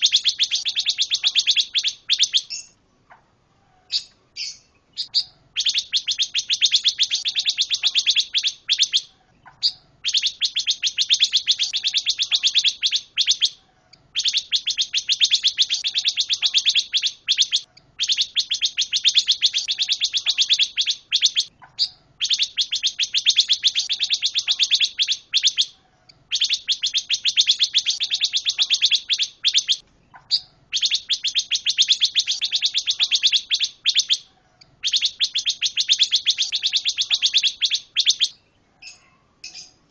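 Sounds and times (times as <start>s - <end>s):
songbird rapid high trill: 0.0s - 2.8s, 4.0s - 9.1s, 9.7s - 38.4s.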